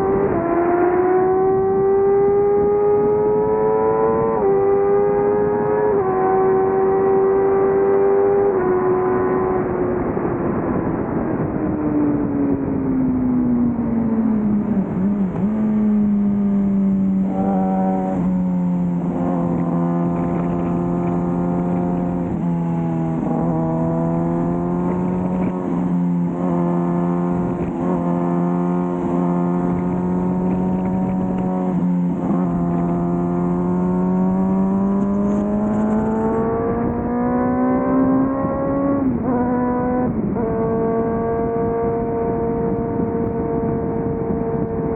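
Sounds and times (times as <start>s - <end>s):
motorcycle engine at speed: 0.0s - 44.9s.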